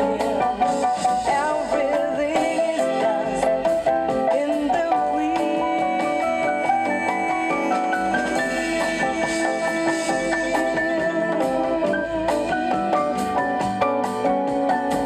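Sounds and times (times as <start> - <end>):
instrumental music with beat: 0.0 - 15.0.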